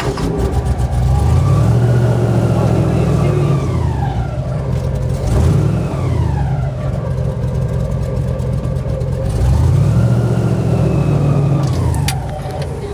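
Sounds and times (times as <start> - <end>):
engine drone: 0.0 - 12.9.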